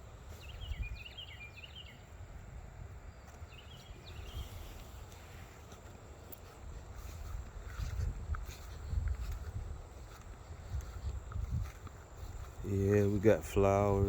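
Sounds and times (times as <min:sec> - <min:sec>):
songbird chirping: 0:00.0 - 0:14.0
wind rumble on microphone: 0:00.0 - 0:14.0.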